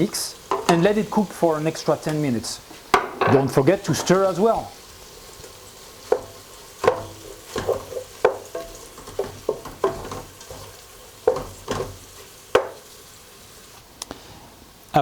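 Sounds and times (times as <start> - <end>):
food sizzling faintly: 0.0 - 15.0
utensil knocking and scraping pot: 0.3 - 13.8.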